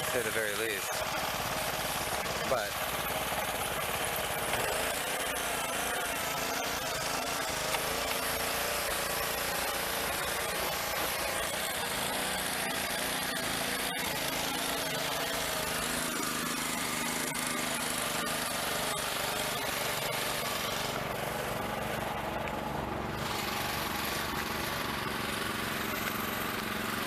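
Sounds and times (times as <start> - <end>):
hissing water spray: 0.0 - 22.1, 23.1 - 27.0
pressure washer motor hum: 0.0 - 27.0.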